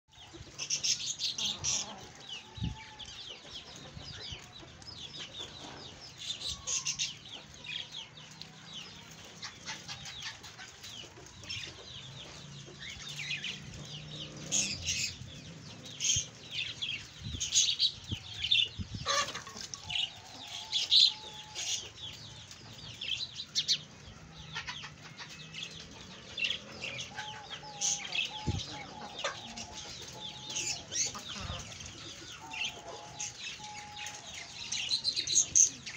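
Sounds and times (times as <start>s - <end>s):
chickens clucking and calling: 0.1s - 35.9s.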